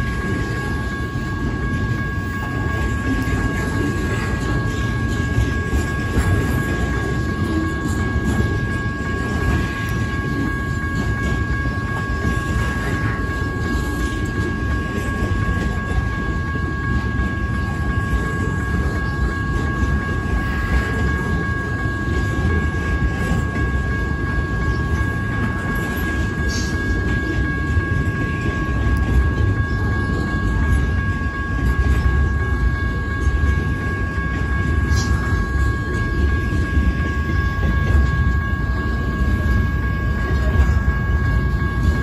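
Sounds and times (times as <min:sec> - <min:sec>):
faint steady high tones: 0:00.0 - 0:42.0
freight train wheels rumbling: 0:00.0 - 0:42.0.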